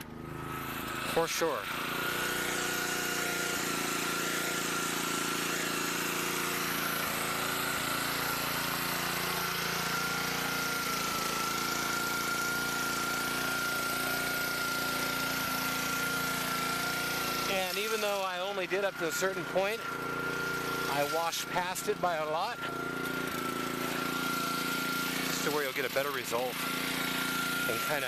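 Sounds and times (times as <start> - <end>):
pressure washer motor droning: 0.0 - 28.0.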